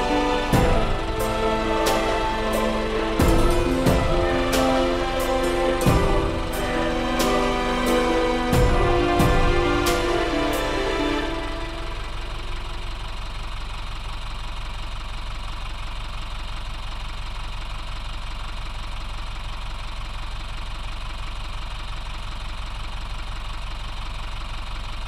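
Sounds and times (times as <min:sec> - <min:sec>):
diesel tractor engine idling: 0:00.0 - 0:25.0.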